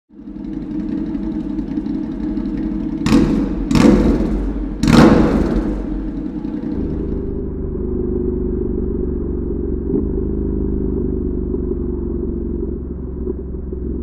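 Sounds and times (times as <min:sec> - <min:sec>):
motorcycle engine revving: 0:00.1 - 0:14.0.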